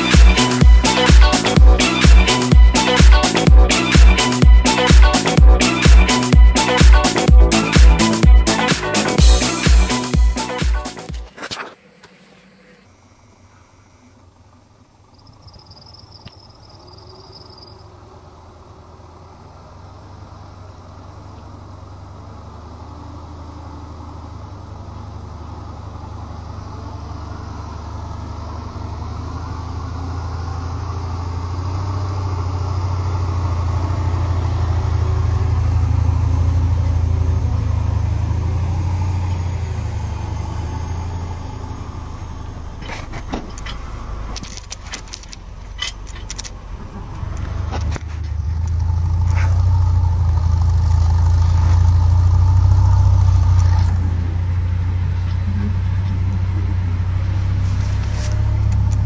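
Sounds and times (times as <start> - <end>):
diesel truck engine driving: 0.0 - 12.9, 14.0 - 59.0.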